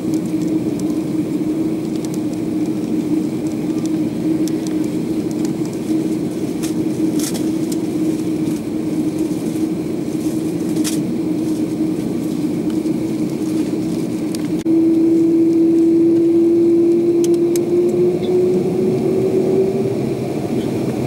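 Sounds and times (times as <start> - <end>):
aircraft cabin engine drone: 0.0 - 21.0.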